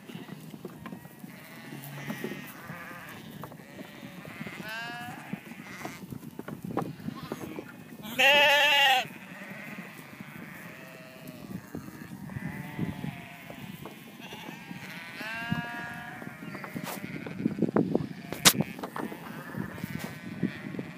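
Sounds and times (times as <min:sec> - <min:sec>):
sheep bleating: 0:01.2 - 0:06.0, 0:06.9 - 0:20.9.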